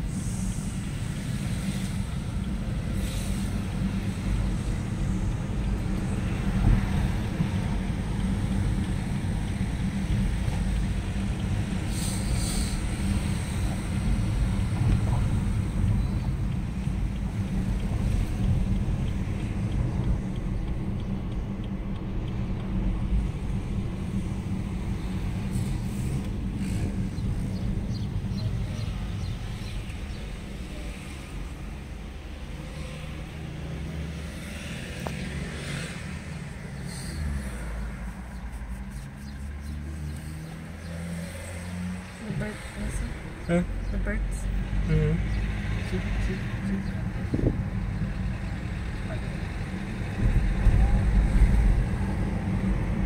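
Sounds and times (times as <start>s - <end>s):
car engine rumble: 0.0s - 53.0s
tyre noise on road: 0.0s - 53.0s.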